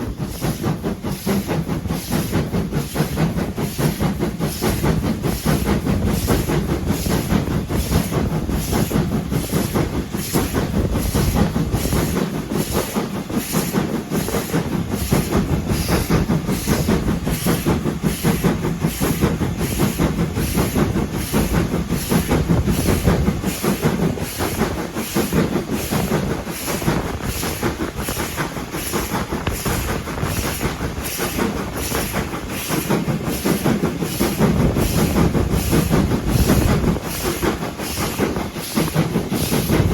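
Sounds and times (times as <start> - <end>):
train running on tracks: 0.0 - 39.9.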